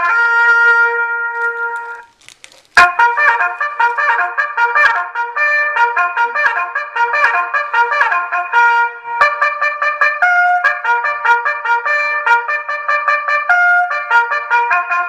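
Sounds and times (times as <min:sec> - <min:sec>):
electronic car horn playing bugle calls: 0:00.0 - 0:02.1, 0:02.8 - 0:15.0.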